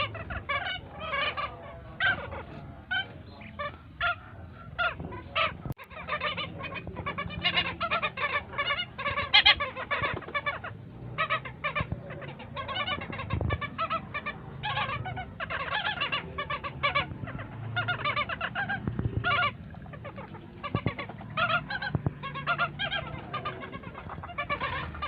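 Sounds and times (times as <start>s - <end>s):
young stilts yapping calls: 0.0s - 25.0s.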